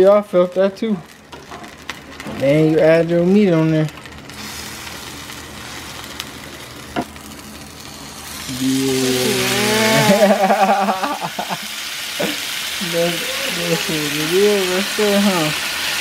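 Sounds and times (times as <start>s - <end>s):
tortilla sizzling in a pan: 0.0s - 16.0s.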